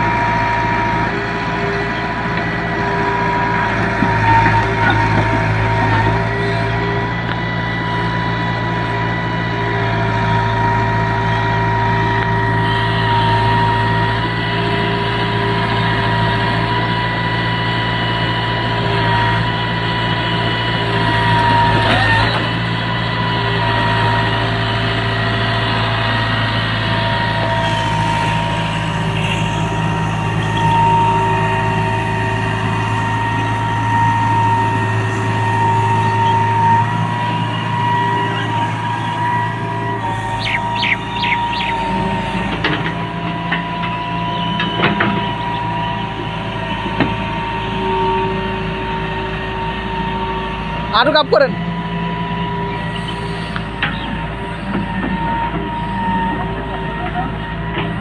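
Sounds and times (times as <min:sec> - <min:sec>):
constant whine: 0:00.0 - 0:58.0
excavator diesel engine running: 0:00.0 - 0:58.0.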